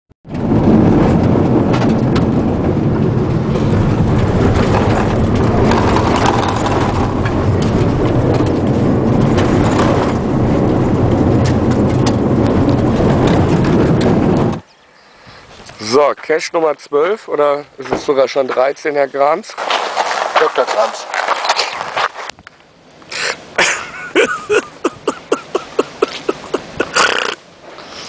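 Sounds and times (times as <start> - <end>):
car engine and road noise: 0.2 - 28.0.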